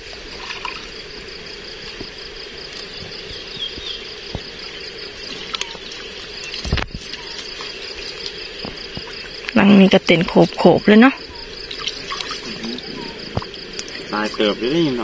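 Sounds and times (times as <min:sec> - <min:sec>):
pulsing insect trill: 0:00.0 - 0:15.0
water trickling and dripping: 0:00.0 - 0:15.0.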